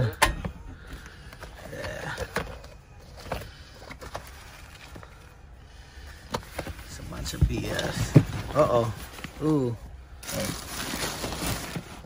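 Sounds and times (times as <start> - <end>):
papers and vinyl rustling: 0.8 - 12.0.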